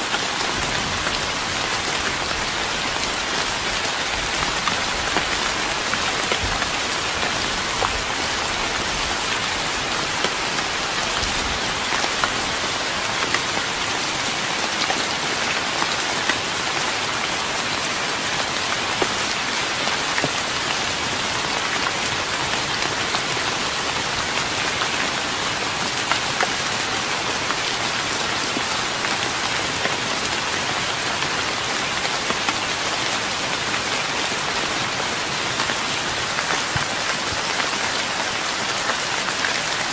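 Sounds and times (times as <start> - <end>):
rain pattering on wooden deck: 0.0 - 39.9.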